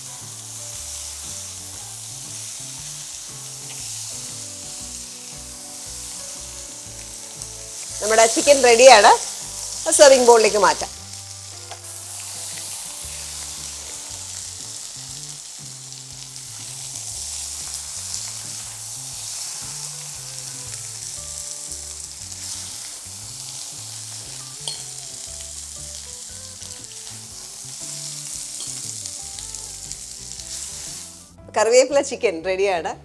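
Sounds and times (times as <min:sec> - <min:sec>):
chicken sizzling in oil: 0:00.0 - 0:31.4.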